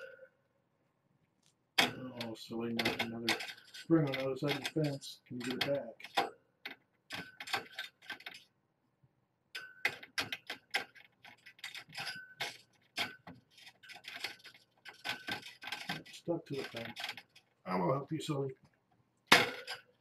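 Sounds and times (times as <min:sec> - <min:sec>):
light clicks and rattles: 0:01.2 - 0:08.5, 0:09.6 - 0:20.0.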